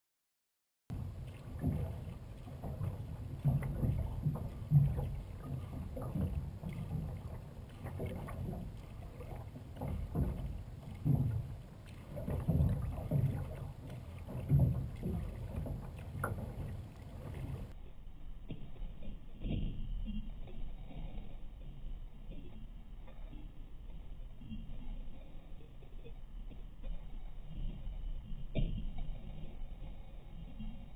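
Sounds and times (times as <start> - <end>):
paddle blades dipping in water: 0.9 - 30.9
water washing along hull: 0.9 - 30.9.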